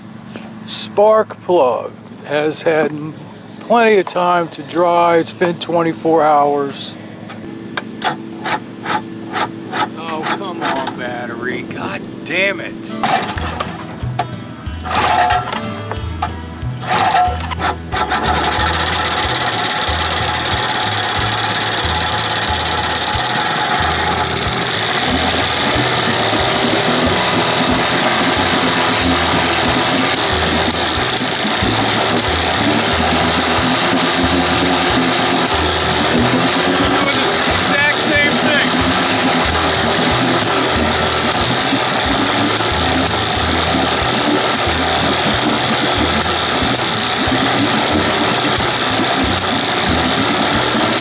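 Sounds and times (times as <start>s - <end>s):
engine running unevenly: 0.0s - 51.0s.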